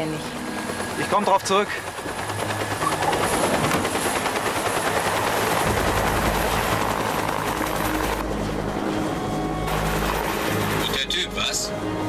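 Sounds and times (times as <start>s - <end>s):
helicopter rotor chop: 0.0s - 11.8s.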